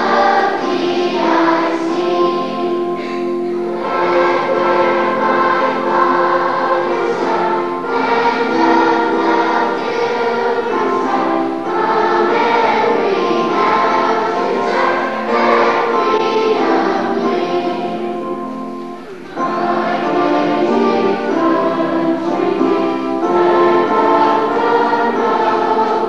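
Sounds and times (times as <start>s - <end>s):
children's choir singing: 0.0s - 26.0s.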